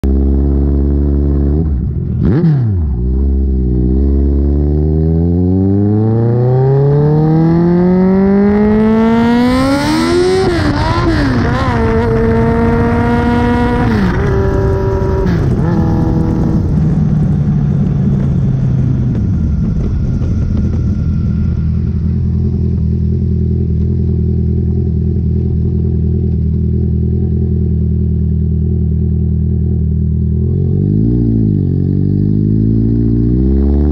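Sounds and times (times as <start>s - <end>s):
vehicle engine idling and revving: 0.0s - 33.9s.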